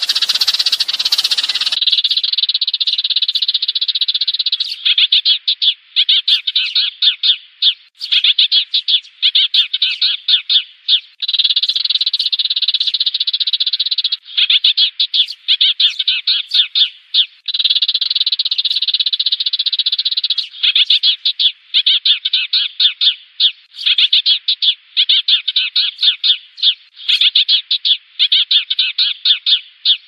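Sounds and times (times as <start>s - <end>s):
sparrows chirping: 0.0s - 30.0s.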